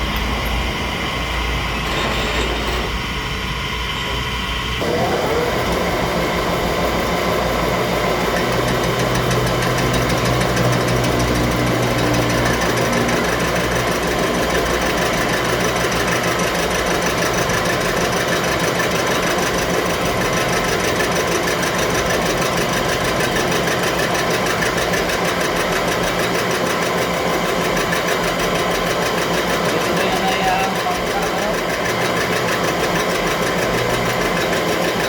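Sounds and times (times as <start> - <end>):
machine motor running: 0.0 - 35.0.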